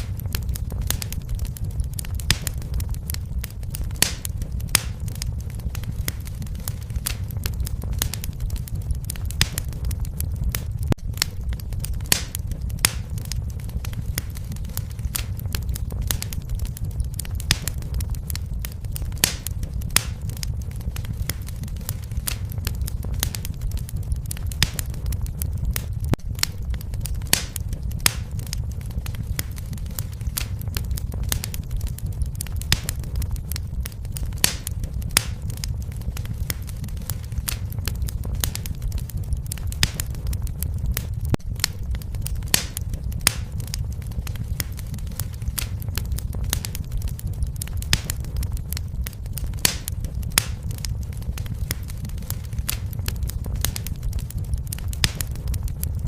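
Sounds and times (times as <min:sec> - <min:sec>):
low rumble of flames: 0:00.0 - 0:56.0
sharp pops and snaps: 0:00.0 - 0:56.0
wood fire crackling: 0:00.0 - 0:56.0.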